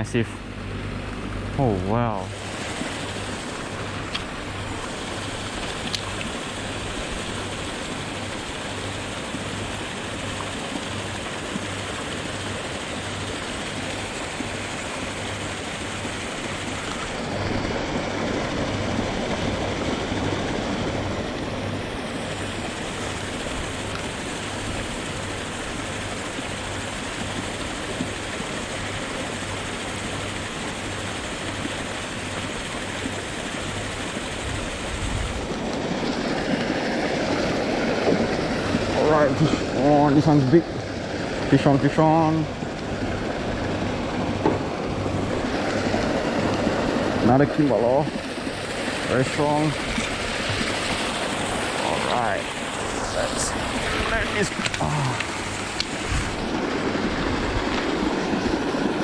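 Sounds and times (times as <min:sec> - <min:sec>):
water churned by aerators: 0:00.0 - 0:59.0.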